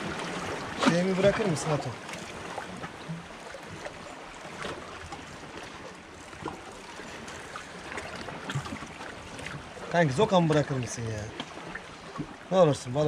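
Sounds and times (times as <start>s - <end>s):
sea water washing against rocks: 0.0s - 12.8s.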